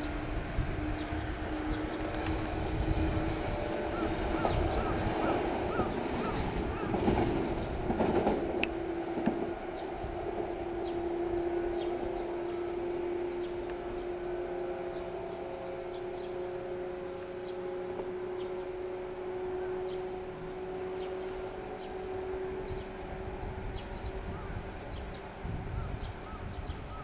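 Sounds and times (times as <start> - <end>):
electric train humming: 0.0 - 27.0.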